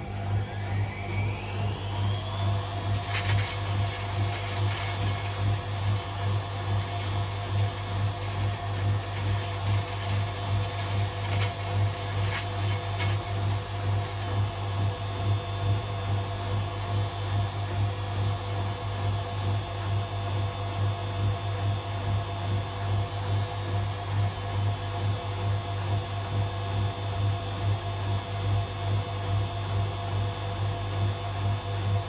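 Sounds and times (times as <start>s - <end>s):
washing machine drum humming: 0.0s - 27.0s.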